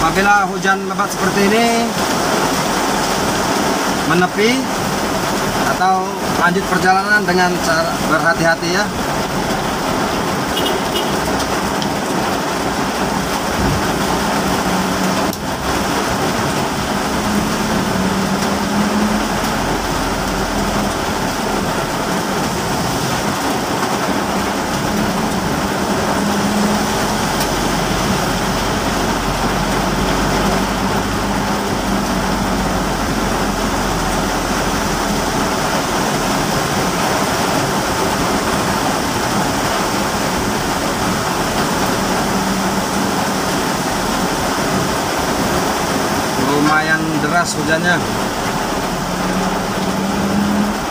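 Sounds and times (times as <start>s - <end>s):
car engine hum: 0.0s - 50.9s
heavy rain on a car: 0.0s - 50.9s.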